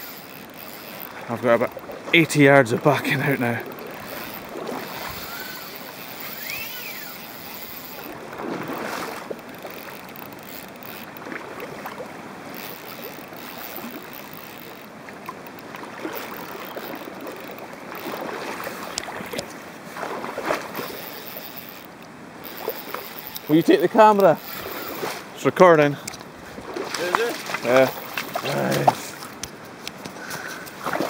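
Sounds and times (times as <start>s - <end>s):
faint ticks: 0.0s - 1.9s, 2.8s - 8.3s, 9.2s - 19.6s, 20.8s - 25.0s, 26.0s - 26.3s, 27.0s - 30.8s
river water rushing over gravel: 0.0s - 29.8s.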